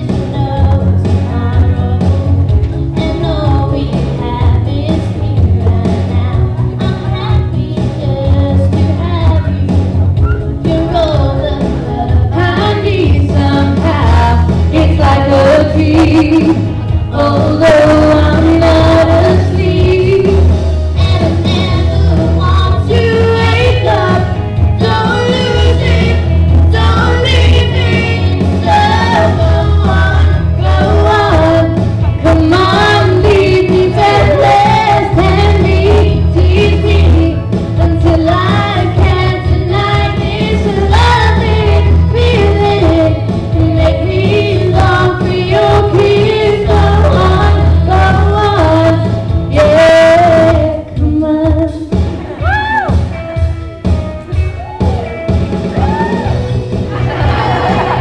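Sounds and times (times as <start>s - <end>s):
girls singing pop duet: 0.0s - 52.8s
backing track with heavy bass: 0.0s - 58.0s.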